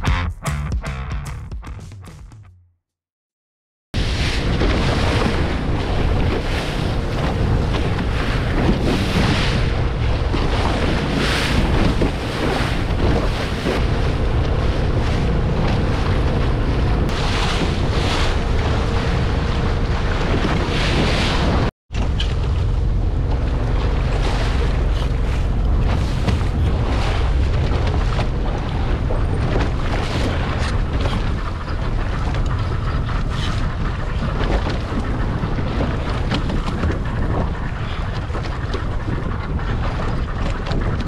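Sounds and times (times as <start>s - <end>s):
wind on microphone: 4.0s - 41.0s.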